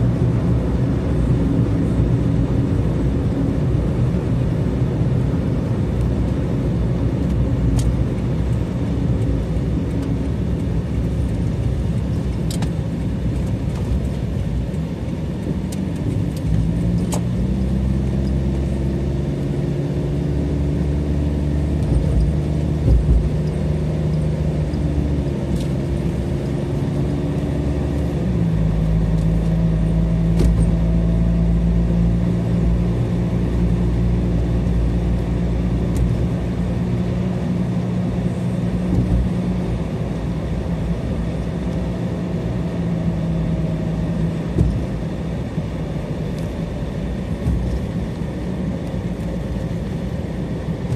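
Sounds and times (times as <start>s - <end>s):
car engine drone: 0.0s - 50.9s
road noise: 0.0s - 50.9s.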